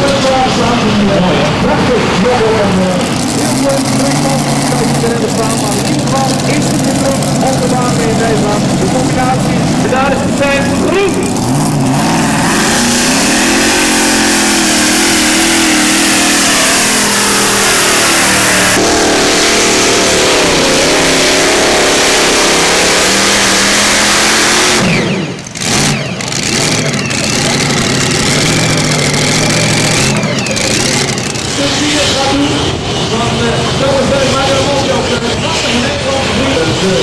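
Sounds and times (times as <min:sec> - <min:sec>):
engine idling: 0:00.0 - 0:37.0
tractor engine running hard: 0:00.0 - 0:37.0.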